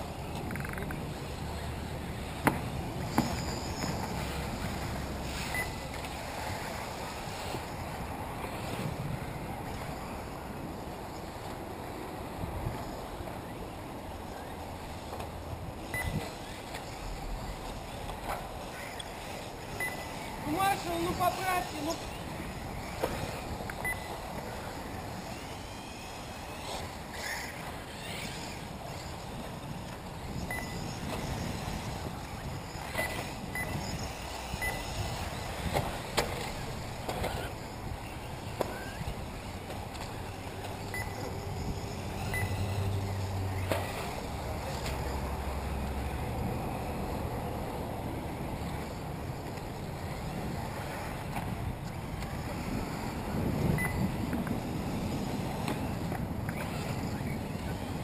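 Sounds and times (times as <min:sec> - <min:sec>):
rc car motors whining: 0:00.0 - 0:58.0
steady background rush: 0:00.0 - 0:58.0
wind buffeting microphone: 0:00.0 - 0:58.0.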